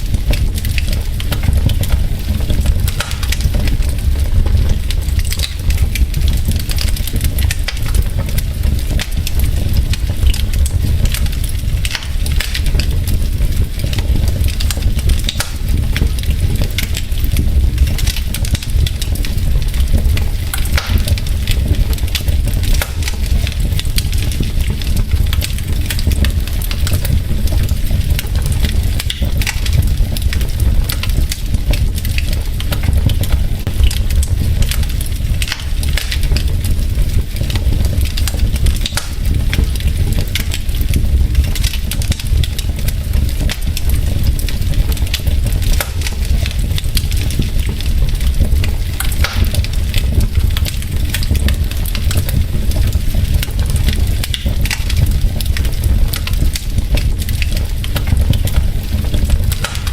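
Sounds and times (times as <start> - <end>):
low rumble of flame: 0.0 - 59.9
wood fire crackling: 0.0 - 59.9.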